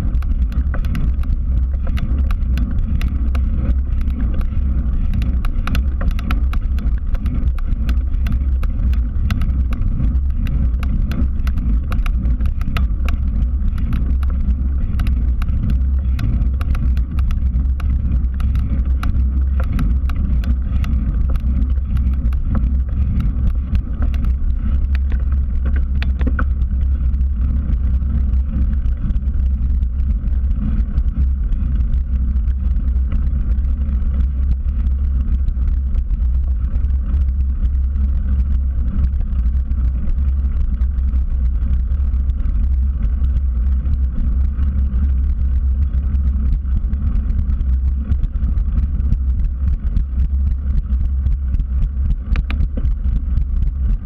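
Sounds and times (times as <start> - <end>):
bicycle tyre on concrete: 0.0 - 54.0
wind rumble on microphone: 0.0 - 54.0.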